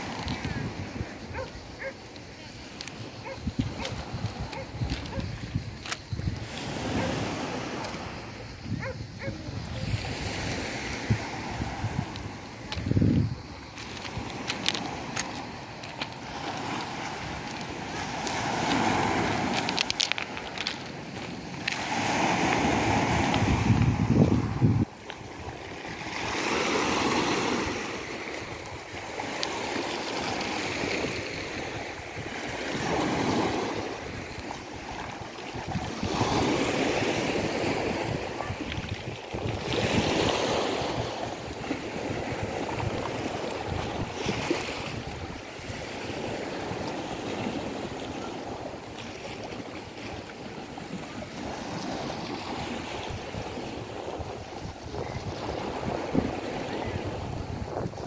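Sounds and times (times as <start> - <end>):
waves breaking against concrete: 0.0 - 58.0.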